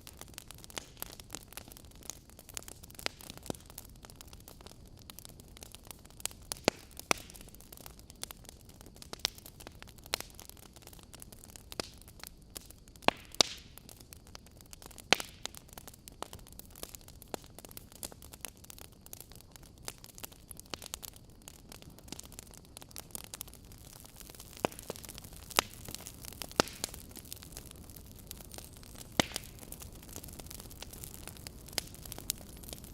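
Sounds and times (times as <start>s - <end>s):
fire crackling and popping: 0.0s - 32.9s
fire hissing: 0.0s - 32.9s.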